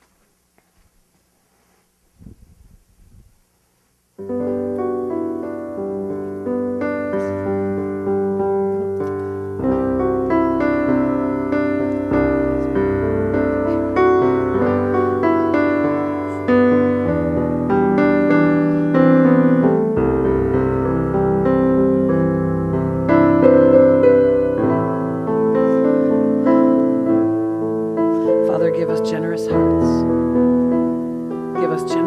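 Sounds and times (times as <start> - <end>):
digital piano piece: 4.2 - 32.0.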